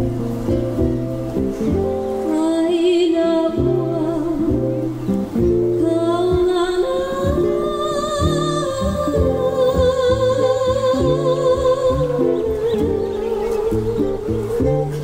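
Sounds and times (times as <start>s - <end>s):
strummed ukuleles and guitar: 0.0s - 15.0s
woman singing with vibrato: 2.2s - 15.0s.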